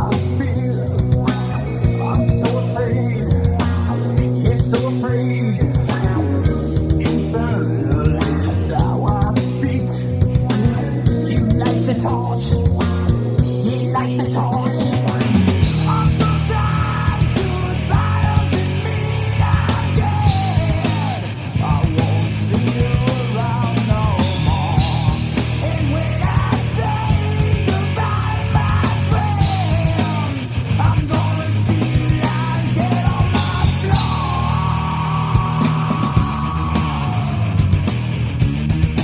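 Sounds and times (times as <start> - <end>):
person singing and yelling: 0.0 - 37.8
loud rock band playing: 0.0 - 39.0.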